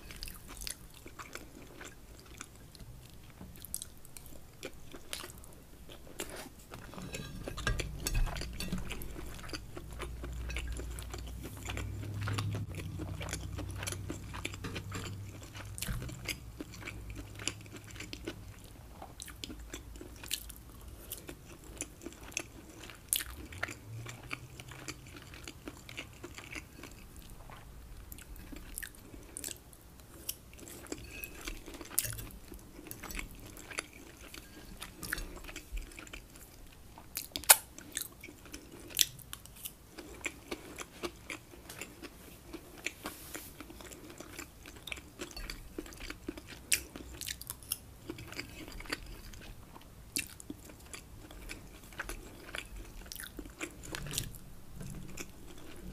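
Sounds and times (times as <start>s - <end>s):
chewing and crunching food: 0.0s - 55.9s.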